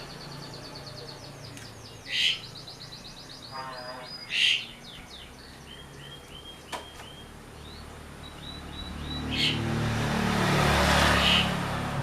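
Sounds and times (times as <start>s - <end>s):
bird chirping: 0.0s - 9.8s, 11.1s - 11.6s.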